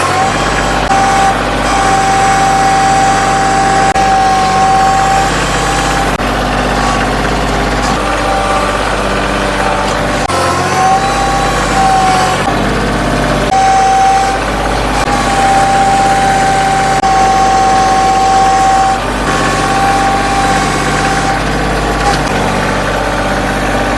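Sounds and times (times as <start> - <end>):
heavy machinery engine running: 0.0 - 23.9.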